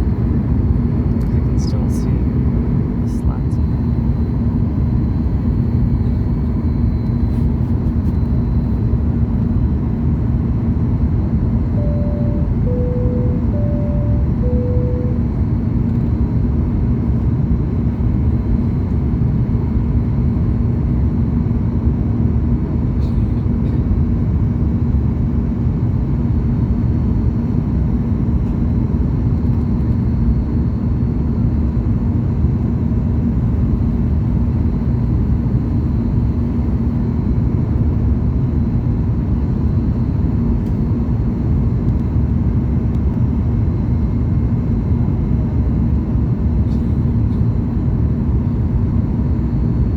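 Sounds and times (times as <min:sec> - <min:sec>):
airplane cabin noise: 0:00.0 - 0:20.9, 0:27.4 - 0:49.9
constant hum: 0:00.0 - 0:49.9.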